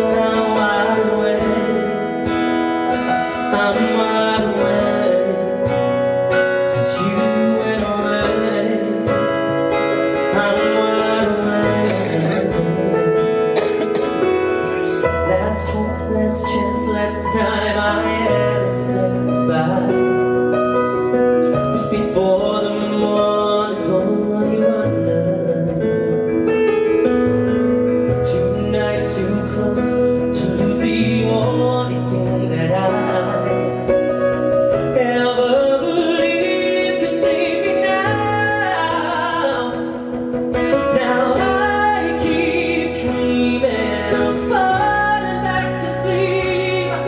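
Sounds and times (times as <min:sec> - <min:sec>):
man singing: 0:00.0 - 0:27.2, 0:27.9 - 0:47.0
bass line: 0:00.0 - 0:47.0
keyboard chords: 0:00.0 - 0:47.0.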